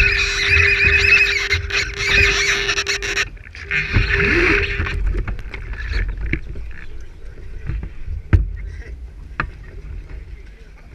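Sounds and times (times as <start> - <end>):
steady hum: 0.0 - 10.0
water rushing along a hull: 0.0 - 10.9.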